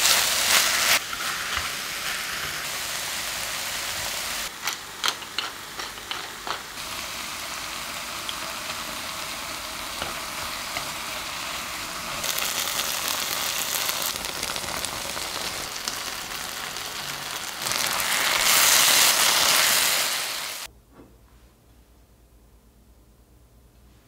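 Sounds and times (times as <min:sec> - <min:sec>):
stir-fry sizzling in a frying pan: 0:00.0 - 0:20.7.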